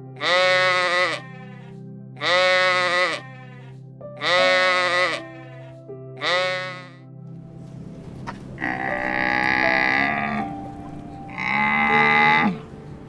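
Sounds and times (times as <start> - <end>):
music with long held notes: 0.0 - 13.0
animal calling: 0.2 - 7.0, 8.3 - 12.7.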